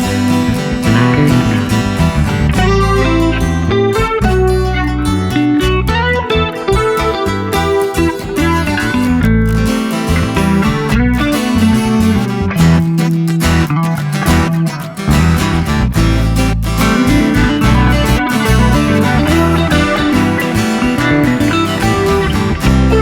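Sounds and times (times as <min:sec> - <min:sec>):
bass line: 0:00.0 - 0:23.0
strummed guitar: 0:00.0 - 0:23.0.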